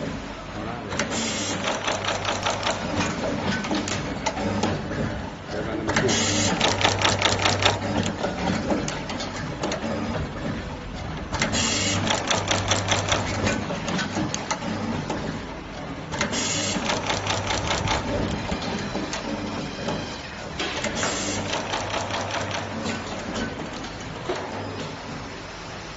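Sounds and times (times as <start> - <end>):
steady machine hum: 0.0 - 25.9
machine clattering: 0.8 - 25.3.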